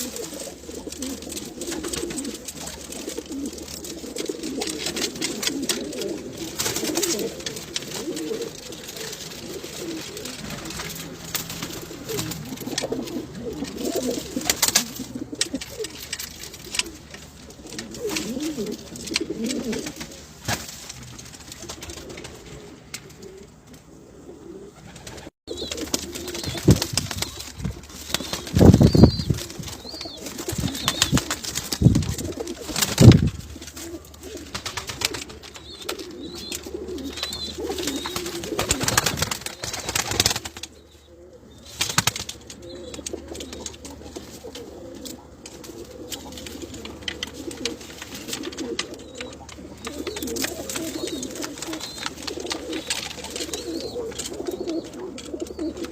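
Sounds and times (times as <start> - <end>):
rustling: 0.0 - 23.9, 24.8 - 40.7, 41.6 - 55.9
pigeons cooing: 0.0 - 55.9.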